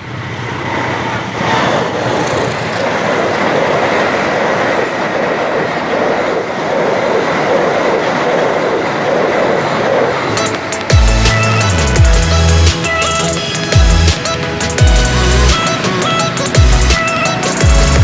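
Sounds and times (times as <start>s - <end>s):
train wheels clickety-clack: 0.0s - 18.0s
train wheels rumbling on rail: 0.0s - 18.0s.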